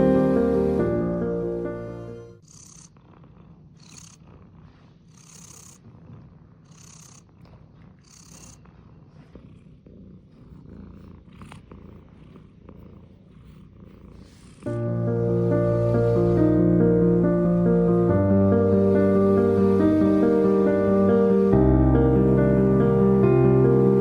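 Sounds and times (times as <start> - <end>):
cat purring: 2.4 - 24.0.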